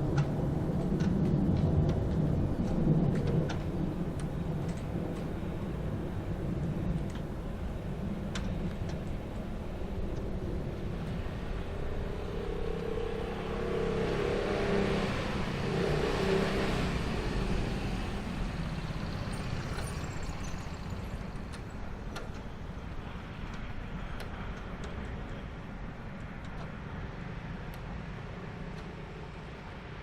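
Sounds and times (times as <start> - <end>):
sharp clicks of wagons: 0.0 - 13.5, 16.2 - 30.0
locomotive hum: 0.0 - 30.0
steel wheels rumbling on rail: 0.0 - 30.0.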